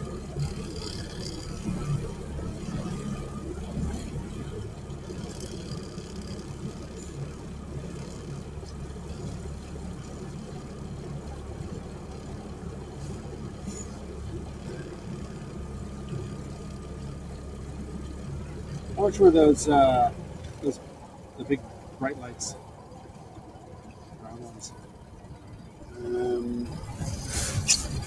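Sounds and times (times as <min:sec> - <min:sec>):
outboard motor droning: 0:00.0 - 0:28.0
wind and water noise: 0:00.0 - 0:28.0.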